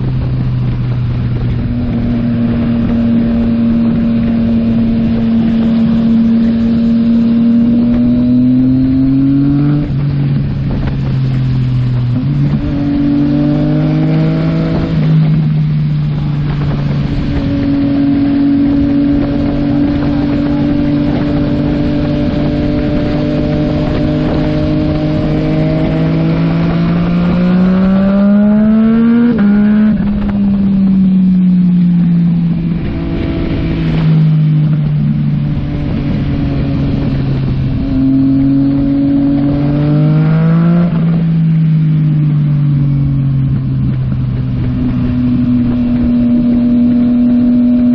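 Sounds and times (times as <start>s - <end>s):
motorcycle engine: 0.0s - 47.9s
wind noise: 0.0s - 47.9s.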